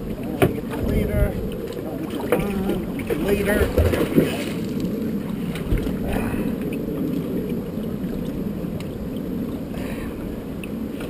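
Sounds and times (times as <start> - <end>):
low rumble of wind: 0.0 - 11.0
water around a boat: 0.0 - 11.0.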